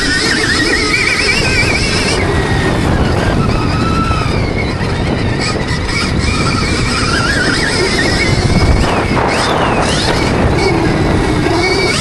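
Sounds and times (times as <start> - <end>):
motocross bike engine whine: 0.0 - 12.0
wind noise on microphone: 0.0 - 12.0.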